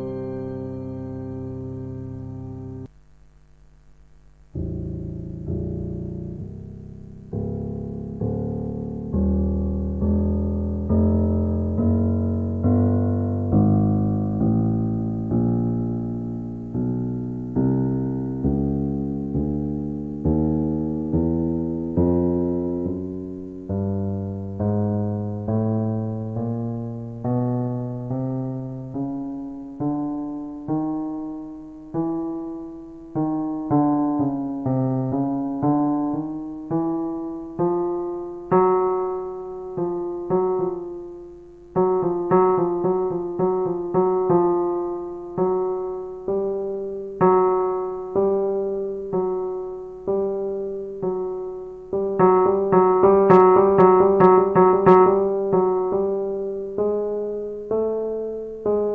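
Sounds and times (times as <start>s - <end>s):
digital piano notes: 0.0s - 2.9s, 4.5s - 58.9s.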